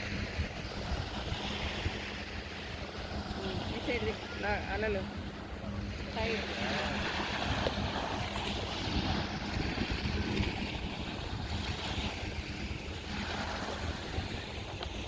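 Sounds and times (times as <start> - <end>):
sea waves washing on beach: 0.0 - 15.0
wind rumbling on microphone: 0.0 - 15.0.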